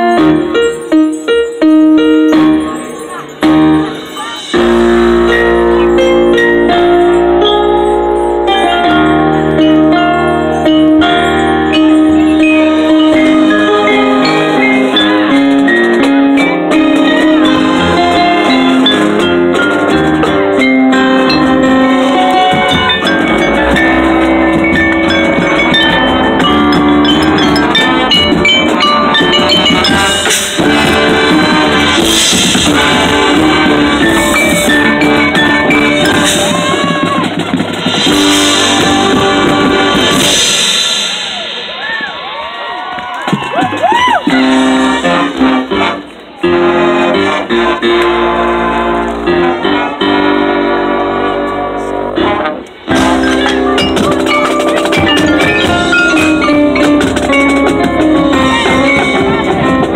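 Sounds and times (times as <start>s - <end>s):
marimba: 0.0s - 42.2s, 51.9s - 59.9s
marching band playing: 0.0s - 59.9s.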